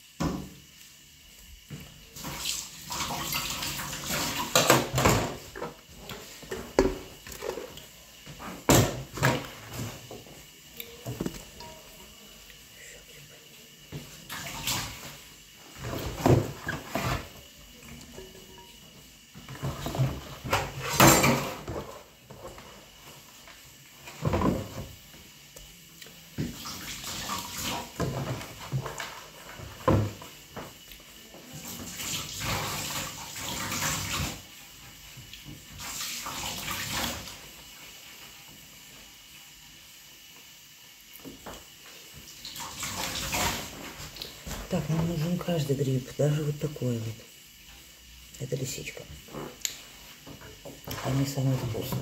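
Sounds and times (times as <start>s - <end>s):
water splashing in a sink: 0.0s - 39.1s, 41.1s - 52.0s.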